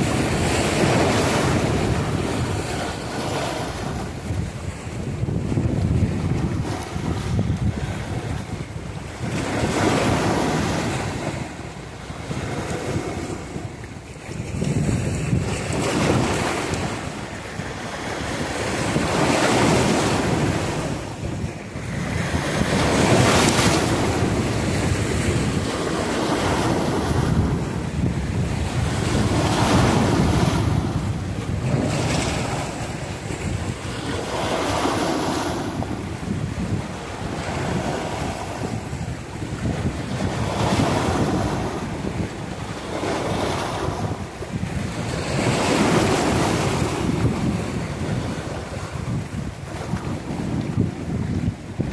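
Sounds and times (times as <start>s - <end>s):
ocean waves breaking: 0.0s - 51.9s
wind buffeting microphone: 0.0s - 51.9s.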